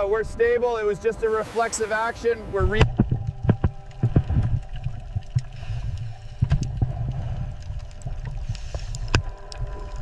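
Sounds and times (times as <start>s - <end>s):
boat engine rumble: 0.0s - 10.0s
water sloshing: 1.2s - 10.0s.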